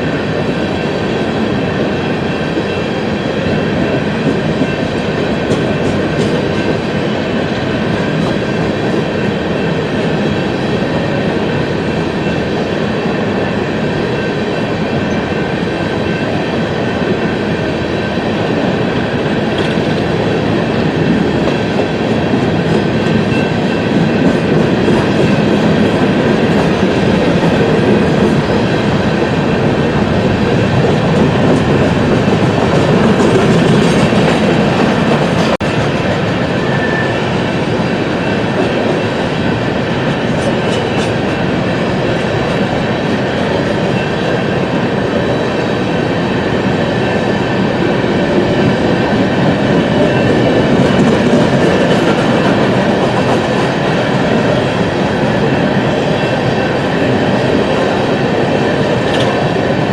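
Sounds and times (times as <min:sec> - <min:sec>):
freight train wheels rumbling on track: 0:00.0 - 0:59.9.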